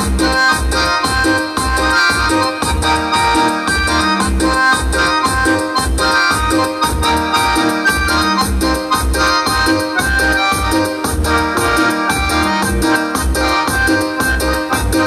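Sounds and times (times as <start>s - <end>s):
electronic keyboard melody: 0.0s - 15.0s
steady low beat: 0.0s - 15.0s.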